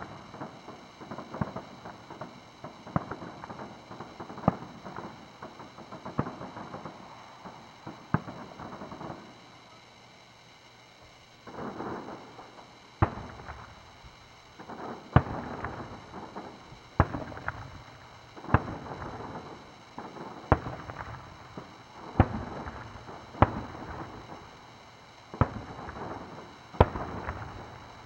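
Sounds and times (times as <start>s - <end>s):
fireworks booming: 0.0s - 28.0s
fireworks crackle: 0.0s - 28.0s.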